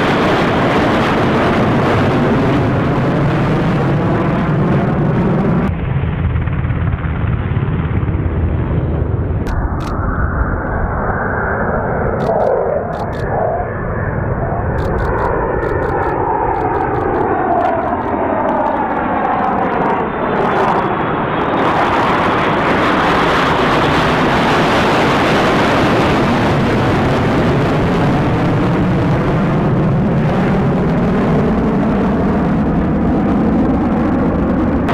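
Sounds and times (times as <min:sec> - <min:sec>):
fighter jet engine roar: 0:00.0 - 0:34.9.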